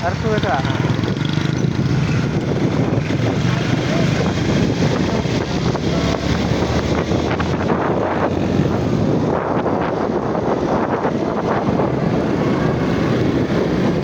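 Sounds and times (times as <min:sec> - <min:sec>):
steady rumble: 0:00.0 - 0:14.0
wind buffeting microphone: 0:00.0 - 0:14.0.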